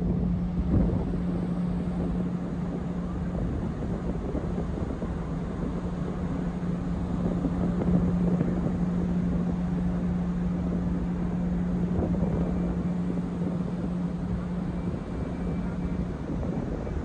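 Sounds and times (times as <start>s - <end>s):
low ship engine hum: 0.0s - 17.0s
wind and ship rushing noise: 0.0s - 17.0s.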